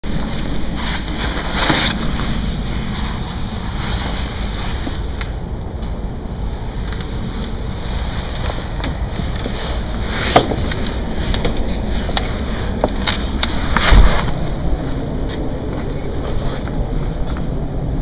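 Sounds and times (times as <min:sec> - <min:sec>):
constant deep rumble: 0:00.0 - 0:18.0.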